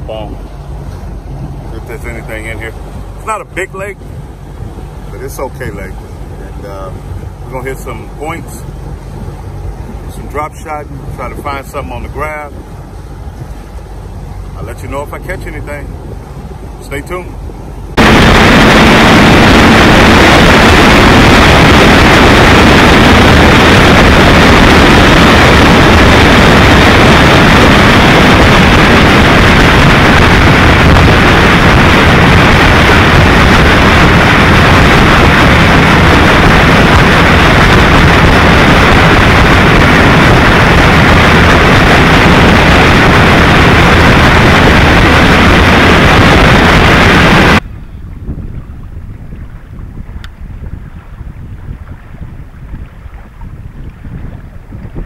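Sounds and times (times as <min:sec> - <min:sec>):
outboard engine drone: 0:00.0 - 0:55.0
wind noise on microphone: 0:00.0 - 0:55.0.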